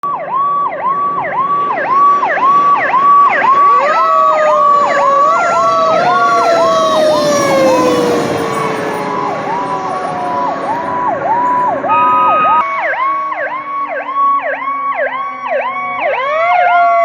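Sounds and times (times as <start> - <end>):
fast cycling siren: 0.0 - 17.0
rising and winding down siren: 0.0 - 17.0.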